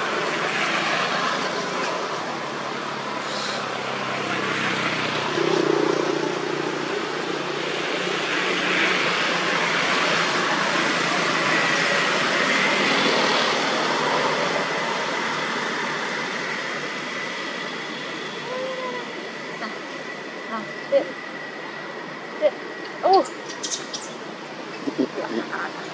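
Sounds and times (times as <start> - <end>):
road traffic passing: 0.0 - 25.9.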